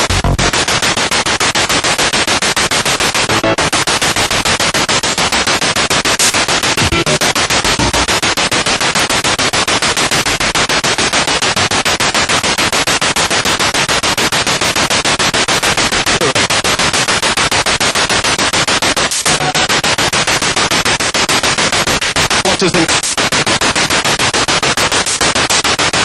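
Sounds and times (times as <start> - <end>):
pulsing radio static: 0.0 - 9.8, 14.4 - 26.0.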